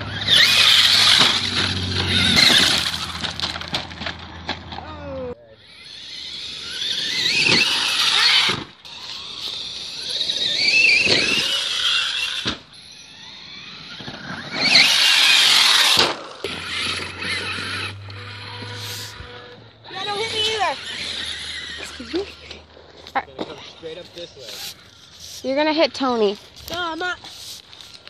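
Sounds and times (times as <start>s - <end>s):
rc truck motor whining: 0.0s - 28.0s.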